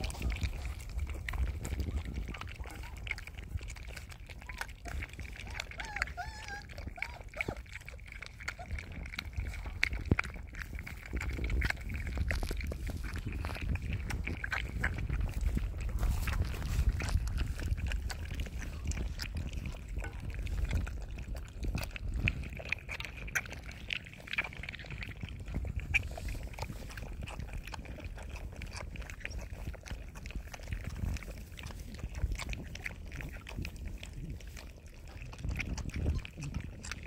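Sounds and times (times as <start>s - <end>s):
puppies lapping milk: 0.0s - 37.0s.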